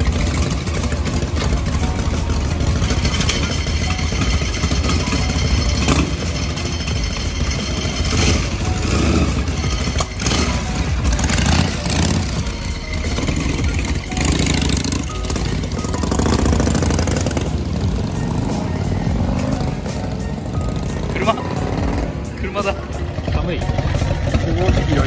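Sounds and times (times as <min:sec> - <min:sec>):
motorcycles rumbling: 0:00.0 - 0:25.0.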